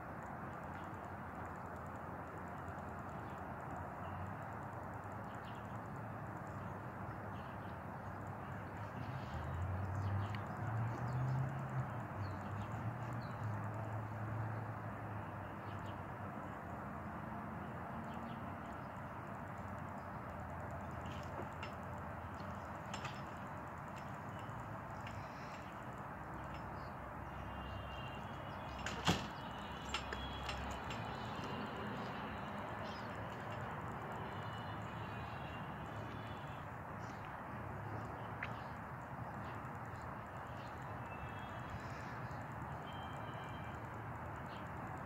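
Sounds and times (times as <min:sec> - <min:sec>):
outdoor background noise: 0:00.0 - 0:45.0
faint clicks: 0:00.1 - 0:14.5, 0:18.0 - 0:45.0.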